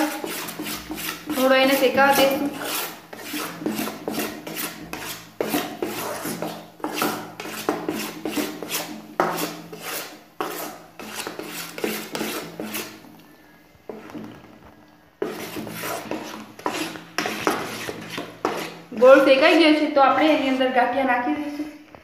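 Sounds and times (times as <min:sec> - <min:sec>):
spoon scraping a pan: 0:00.0 - 0:14.6, 0:15.2 - 0:20.4.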